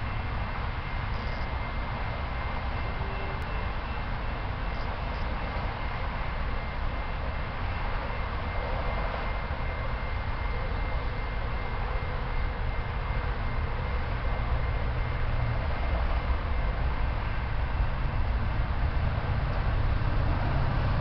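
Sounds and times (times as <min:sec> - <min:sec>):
distant freight train rumbling: 0:00.0 - 0:21.0.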